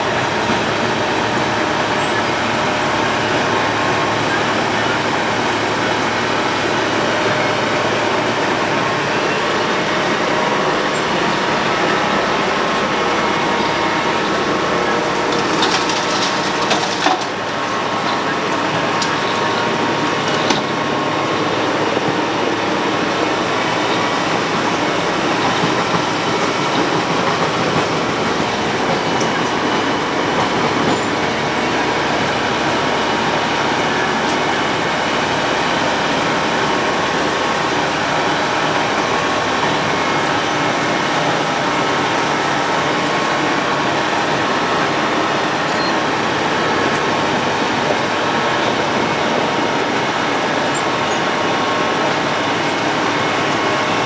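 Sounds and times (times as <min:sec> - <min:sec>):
faint engine hum: 0:00.0 - 0:54.0
milling drum grinding asphalt: 0:00.0 - 0:54.0.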